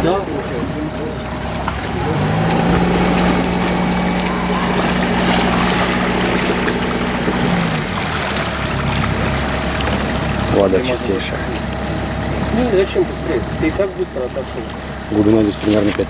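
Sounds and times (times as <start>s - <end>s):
boat engine running: 0.0s - 16.0s
propeller churning water: 0.0s - 16.0s.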